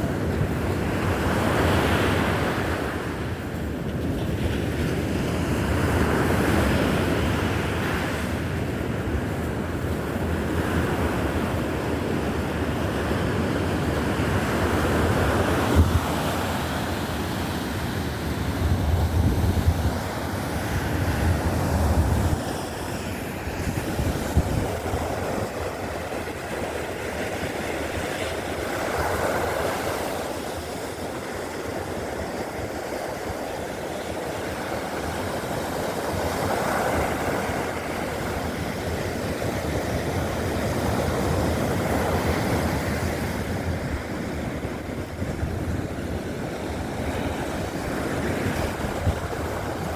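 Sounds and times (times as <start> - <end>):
surf breaking on beach: 0.0 - 49.9
wind buffeting microphone: 0.0 - 49.9.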